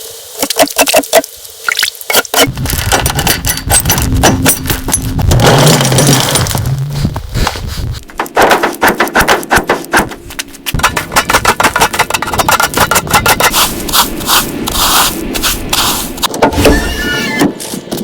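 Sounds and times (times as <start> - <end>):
hand tool scraping: 2.2 - 17.8.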